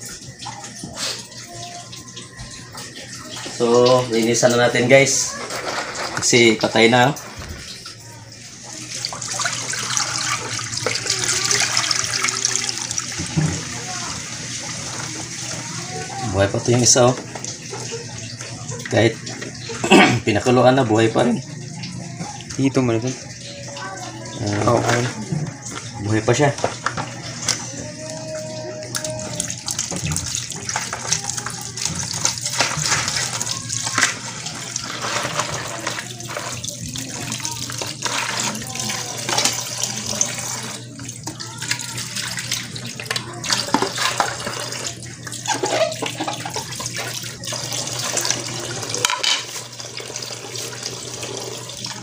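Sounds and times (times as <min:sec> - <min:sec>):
water splashing and running: 0:00.0 - 0:52.0.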